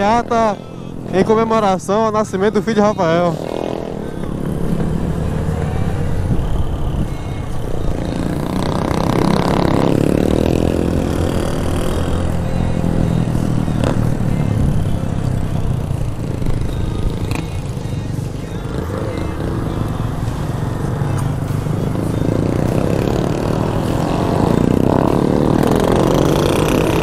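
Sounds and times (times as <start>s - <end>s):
motorcycle engine running: 0.0s - 27.0s
motorcycles riding ahead: 0.0s - 27.0s.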